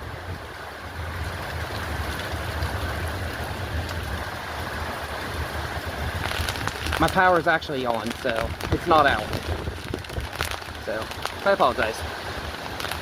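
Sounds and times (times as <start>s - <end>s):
heavy rain: 0.0s - 13.0s
wind rumbling on microphone: 0.0s - 13.0s.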